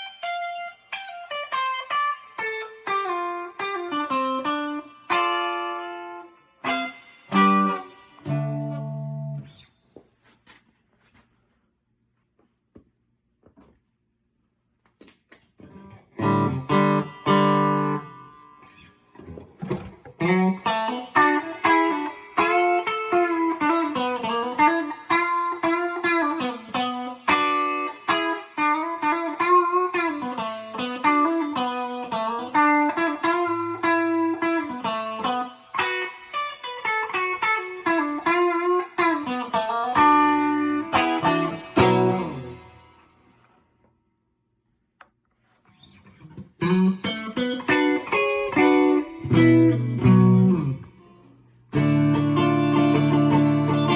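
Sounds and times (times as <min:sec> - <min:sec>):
electric guitar playing: 0:00.0 - 0:09.7, 0:15.6 - 0:43.2, 0:45.7 - 0:53.9.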